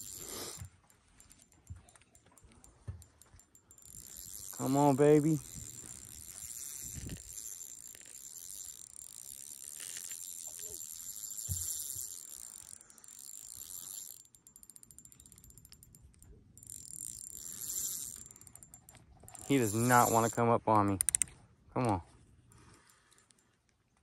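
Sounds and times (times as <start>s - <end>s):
fishing reel ticking: 0.0s - 21.3s
fine reel clicks: 0.0s - 21.4s.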